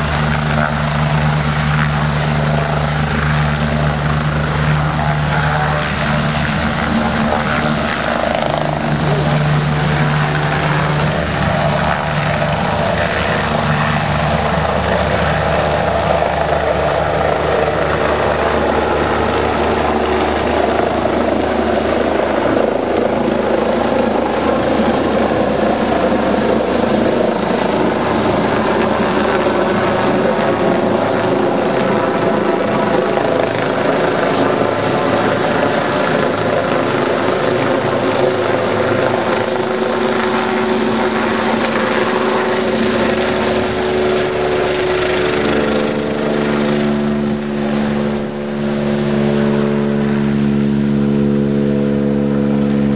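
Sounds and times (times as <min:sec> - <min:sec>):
helicopter taking off: 0:00.0 - 0:52.9.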